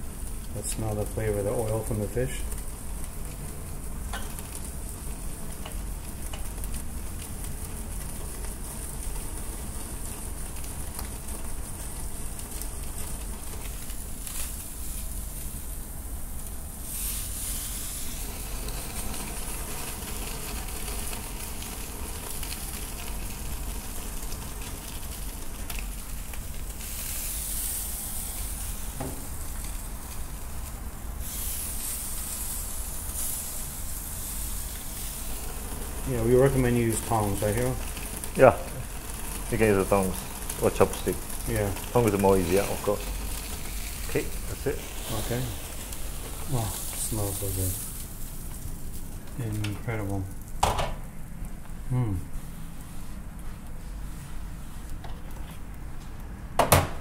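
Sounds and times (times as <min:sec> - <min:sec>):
fish sizzling over a flame: 0:00.0 - 0:55.0.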